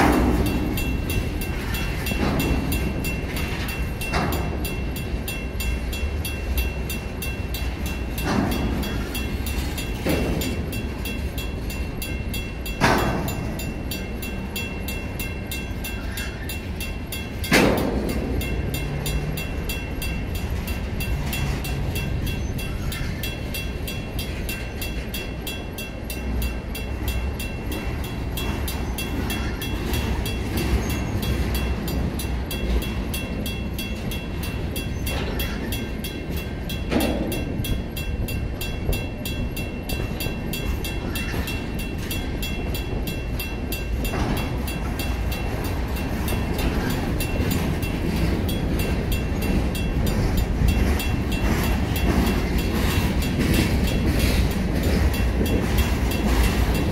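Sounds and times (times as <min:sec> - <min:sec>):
crossing bell ringing: 0:00.0 - 0:56.9
freight train wheels rumbling: 0:00.0 - 0:56.9
train clank: 0:00.0 - 0:56.9.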